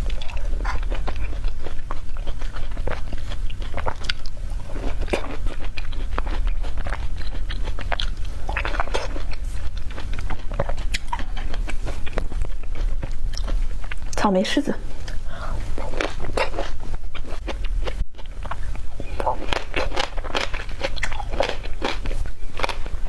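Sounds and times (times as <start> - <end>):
biting and chewing tangerines: 0.0 - 14.1, 14.9 - 23.0.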